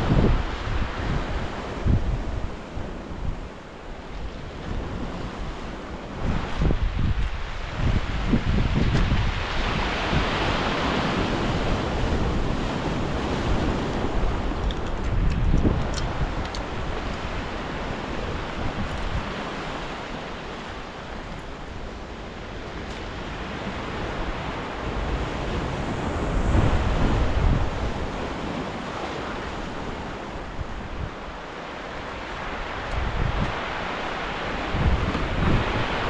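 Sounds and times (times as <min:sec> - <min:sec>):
sea waves breaking: 0:00.0 - 0:36.0
wind buffeting microphone: 0:00.0 - 0:36.0.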